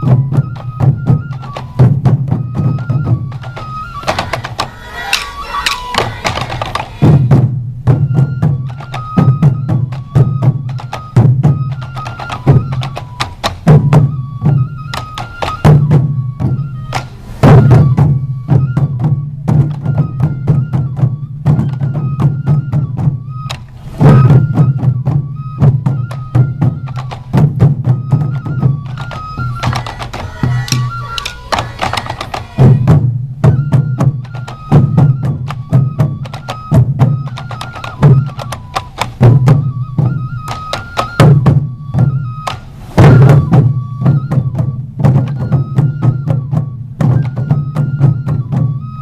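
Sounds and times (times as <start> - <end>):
bamboo flute melody: 0.0 - 49.0
taiko drums beating: 0.0 - 49.0.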